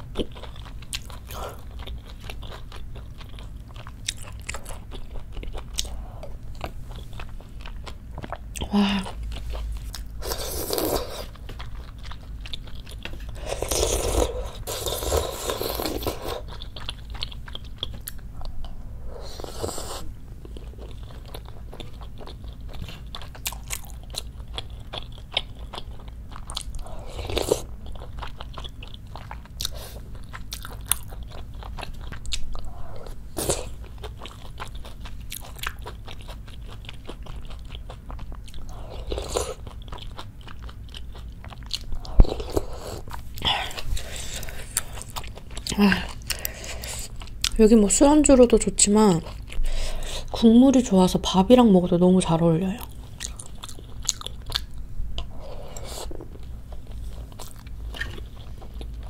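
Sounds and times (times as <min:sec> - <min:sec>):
close chewing and mouth sounds: 0:00.0 - 0:59.0.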